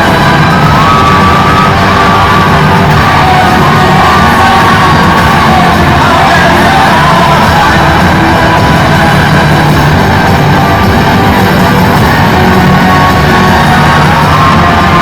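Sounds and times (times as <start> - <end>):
loud dance music: 0.0 - 15.0.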